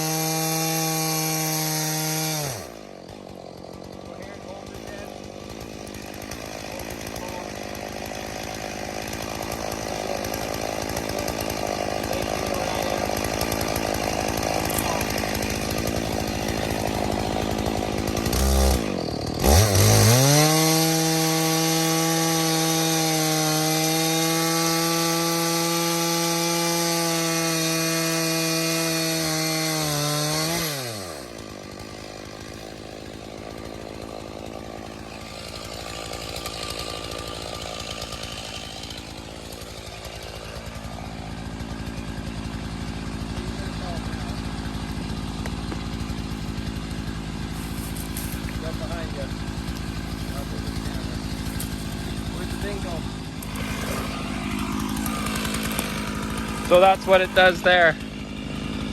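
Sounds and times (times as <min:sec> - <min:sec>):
chainsaw at full throttle: 0:00.0 - 0:58.9
chainsaw cutting log: 0:00.0 - 0:58.9
chainsaw idling: 0:00.0 - 0:58.9.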